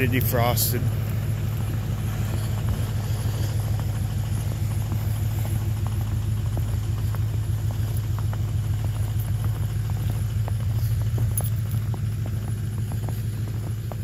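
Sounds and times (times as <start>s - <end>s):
car engine idling: 0.0s - 14.0s
footsteps crunching in snow: 0.0s - 14.0s.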